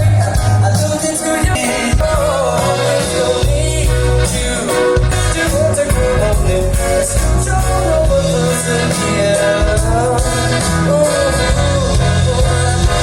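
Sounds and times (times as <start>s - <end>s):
song with vocal and pulsing bass: 0.0s - 13.0s.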